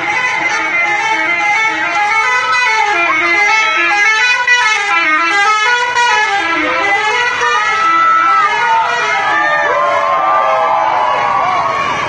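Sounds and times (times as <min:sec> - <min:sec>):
musical air horn tune: 0:00.0 - 0:10.2.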